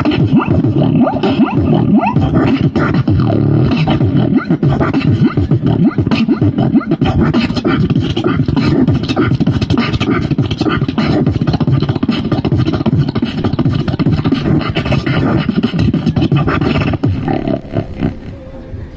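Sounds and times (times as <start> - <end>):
beatboxing through amplifier: 0.0 - 18.4.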